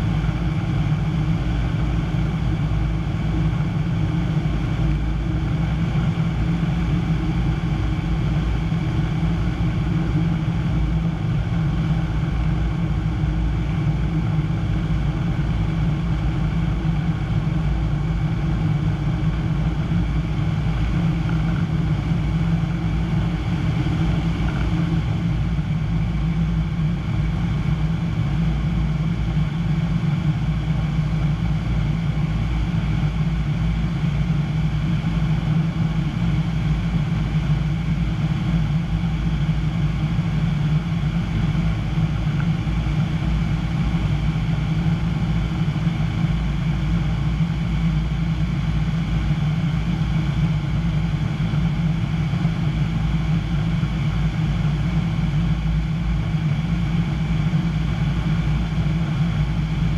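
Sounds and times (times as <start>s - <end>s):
aircraft engine drone in cockpit: 0.0s - 59.9s.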